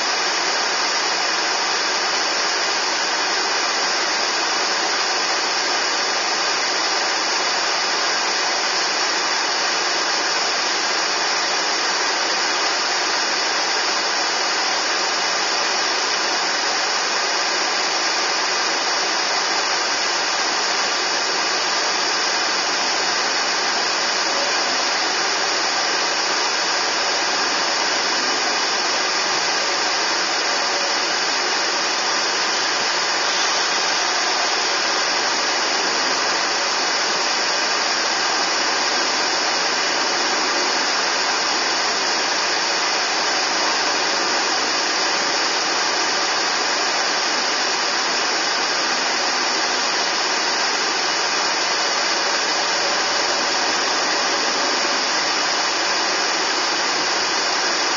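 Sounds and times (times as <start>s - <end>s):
hiss inside moving car: 0.0s - 57.9s.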